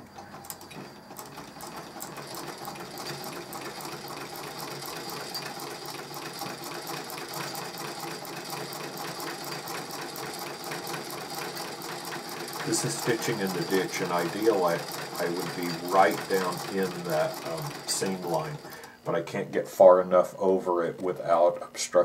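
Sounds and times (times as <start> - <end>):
treadle sewing machine clatter: 0.0 - 18.9.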